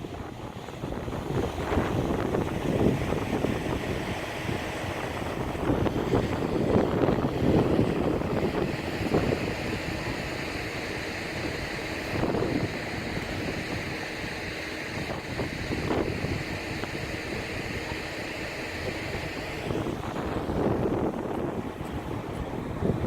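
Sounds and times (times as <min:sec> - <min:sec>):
waves rushing: 0:00.0 - 0:23.0
wind buffeting microphone: 0:00.0 - 0:23.0.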